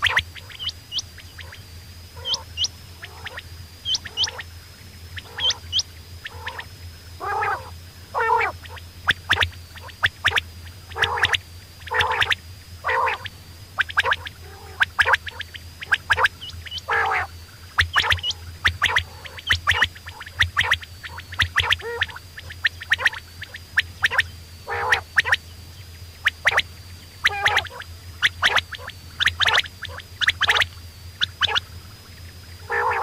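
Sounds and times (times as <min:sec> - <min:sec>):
quail calling: 0:00.0 - 0:01.6, 0:02.2 - 0:04.5, 0:05.2 - 0:10.3, 0:10.9 - 0:25.4, 0:27.2 - 0:31.7, 0:32.6 - 0:33.0
faint high whine: 0:00.0 - 0:33.0
low hum: 0:00.0 - 0:33.0.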